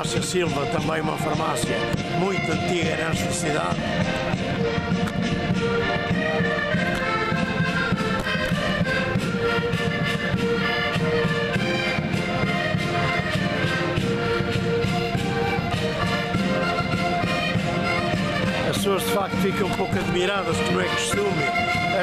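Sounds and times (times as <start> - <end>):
concertinas playing a tune: 0.0 - 22.0.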